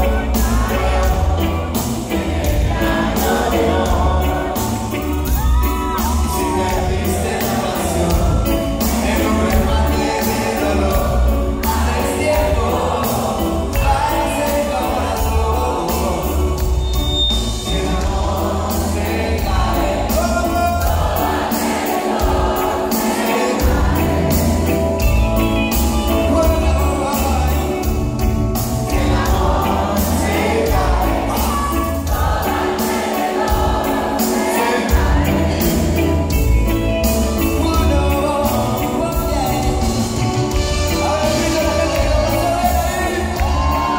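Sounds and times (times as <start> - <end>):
man singing: 0.0 - 21.3, 22.9 - 32.2, 33.8 - 43.9
reggae band playing live: 0.0 - 43.9
steady drum beat: 0.0 - 43.9.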